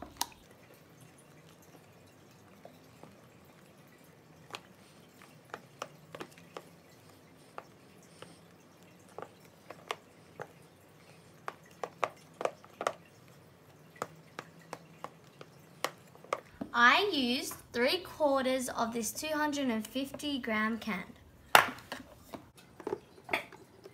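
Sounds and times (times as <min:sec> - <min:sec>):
spoon stirring foamy mix: 0:00.0 - 0:21.0.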